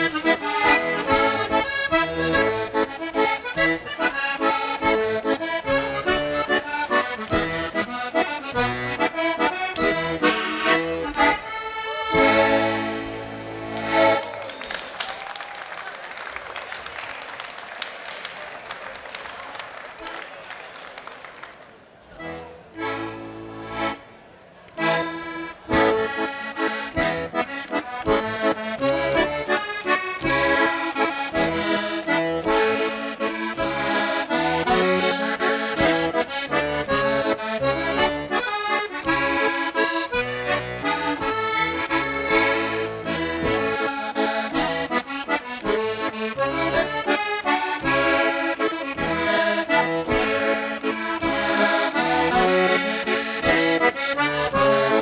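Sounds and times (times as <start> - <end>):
button accordion dance tune: 0.0 - 14.9, 20.0 - 20.3, 22.2 - 24.2, 24.8 - 55.0.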